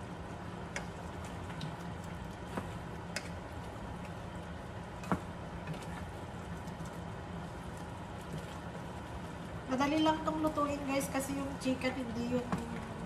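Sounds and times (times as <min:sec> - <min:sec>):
curry simmering: 0:00.0 - 0:10.9.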